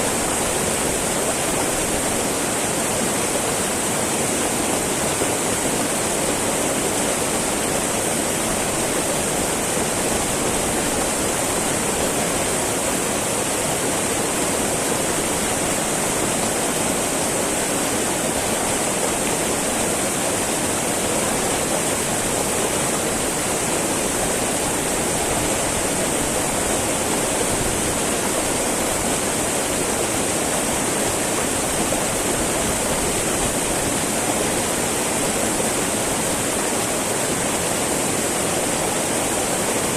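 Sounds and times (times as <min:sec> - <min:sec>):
river babbling over rocks: 0:00.0 - 0:39.9.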